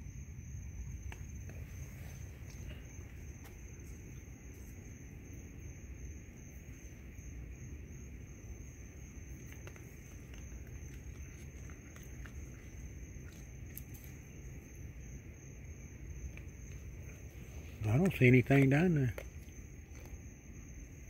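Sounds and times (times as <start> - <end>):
crickets trilling: 0.0 - 21.0
low background rumble: 0.0 - 21.0.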